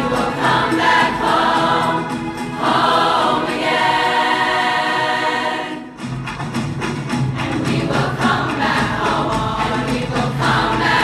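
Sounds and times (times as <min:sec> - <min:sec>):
choir singing held notes: 0:00.0 - 0:06.0, 0:07.3 - 0:11.0.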